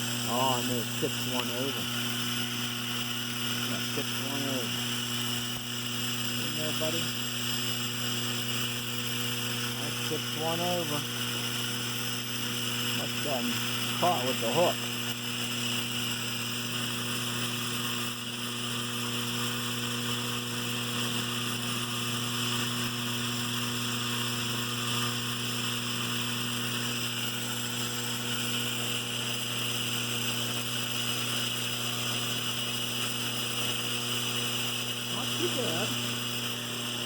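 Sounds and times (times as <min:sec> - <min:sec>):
electric buzz: 0:00.0 - 0:37.0.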